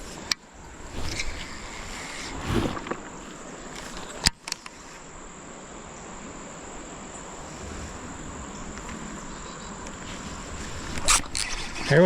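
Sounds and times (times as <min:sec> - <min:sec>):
insects chirring: 0:00.0 - 0:12.0
outdoor hiss: 0:00.0 - 0:12.0.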